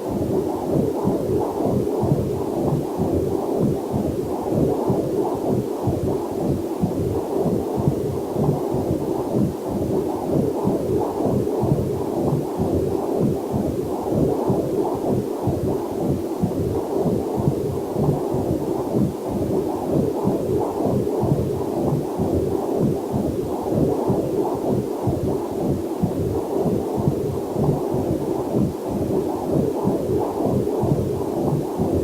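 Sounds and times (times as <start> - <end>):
doppler heartbeat whooshing: 0.0 - 32.0.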